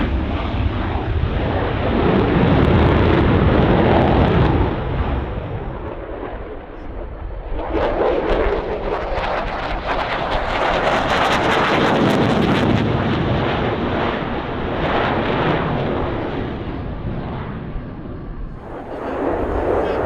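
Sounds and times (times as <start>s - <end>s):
jet engines roaring past: 0.0s - 20.0s.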